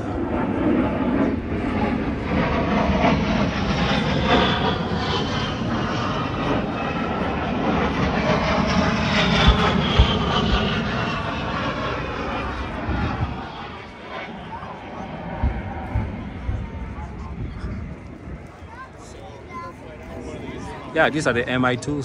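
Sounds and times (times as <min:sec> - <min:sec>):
aircraft engine droning: 0:00.0 - 0:22.0.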